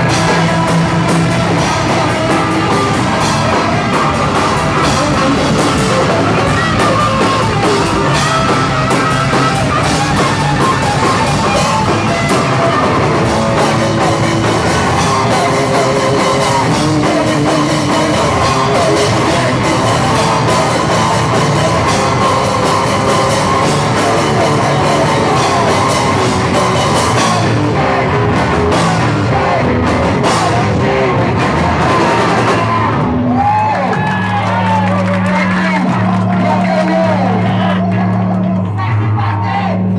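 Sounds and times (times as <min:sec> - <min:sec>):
drum kit: 0:00.0 - 0:38.6
bass guitar: 0:00.0 - 0:39.9
distorted electric guitar: 0:00.0 - 0:39.9
shouted vocals: 0:00.0 - 0:39.9.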